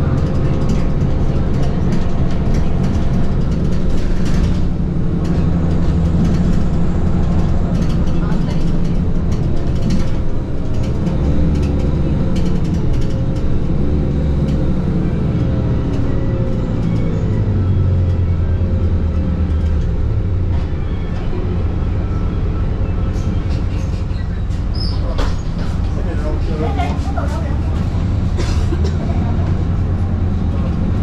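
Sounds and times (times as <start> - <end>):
bus engine drone: 0.0 - 31.0
tyre and road noise: 0.0 - 31.0.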